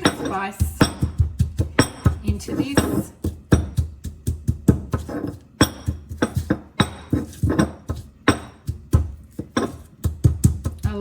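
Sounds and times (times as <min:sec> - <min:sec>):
pestle pounding in a mortar: 0:00.0 - 0:11.0.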